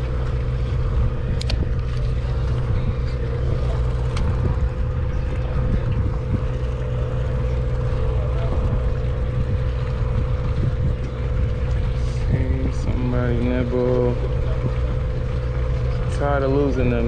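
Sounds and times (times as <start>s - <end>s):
boat engine droning: 0.0s - 17.0s
wind: 0.0s - 17.0s.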